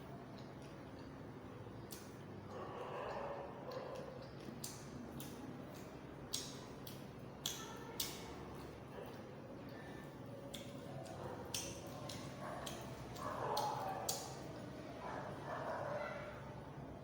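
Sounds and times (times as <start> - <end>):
chewing and mouth sounds: 0.2 - 15.4.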